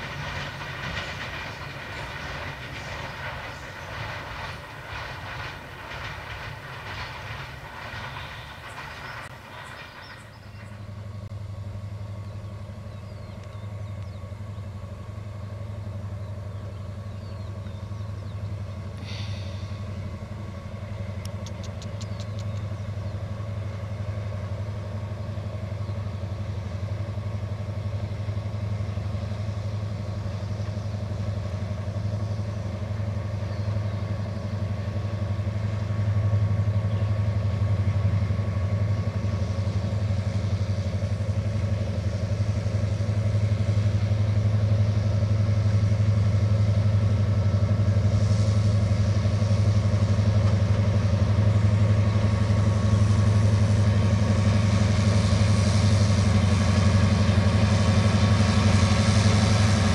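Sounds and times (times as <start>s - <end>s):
diesel locomotive engine droning: 0.0s - 59.9s.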